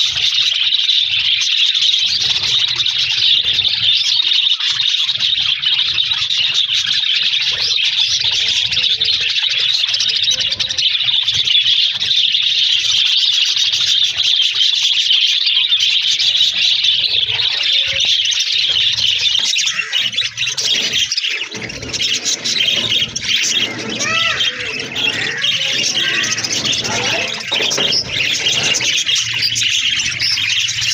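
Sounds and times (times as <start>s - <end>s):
budgerigars chattering: 0.0s - 30.9s.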